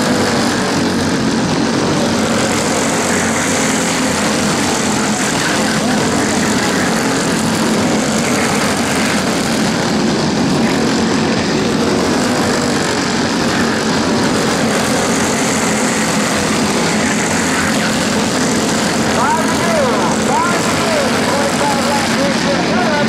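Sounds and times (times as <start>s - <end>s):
go-kart engines drone: 0.0s - 23.0s.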